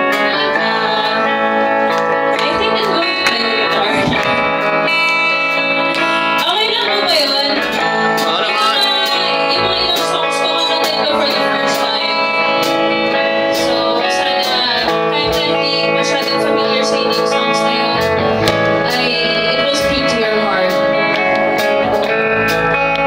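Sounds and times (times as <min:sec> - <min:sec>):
woman singing: 0:00.0 - 0:04.6, 0:06.0 - 0:18.2, 0:18.8 - 0:21.2
electric guitar chords: 0:00.0 - 0:23.0
keyboard chords: 0:00.0 - 0:23.0.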